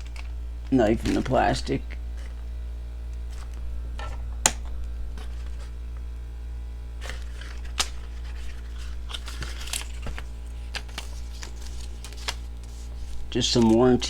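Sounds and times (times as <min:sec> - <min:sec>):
packaging rustling: 0:00.0 - 0:06.3, 0:06.9 - 0:14.0
steady low hum: 0:00.0 - 0:14.0.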